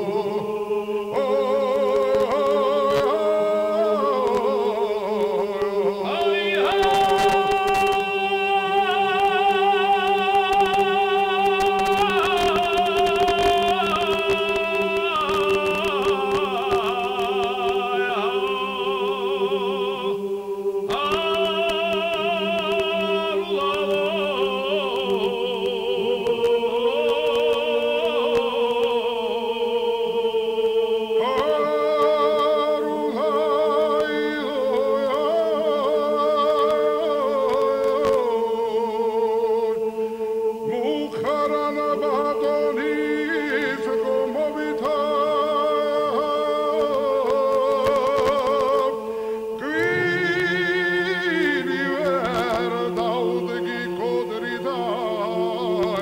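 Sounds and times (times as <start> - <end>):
men's choir singing polyphony: 0.0 - 56.0.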